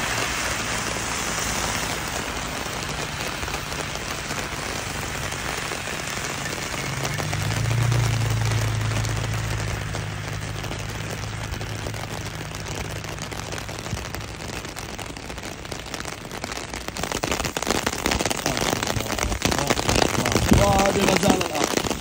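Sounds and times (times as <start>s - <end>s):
passing vehicle hum: 0.0s - 22.0s
rain on a plastic umbrella: 0.0s - 22.0s.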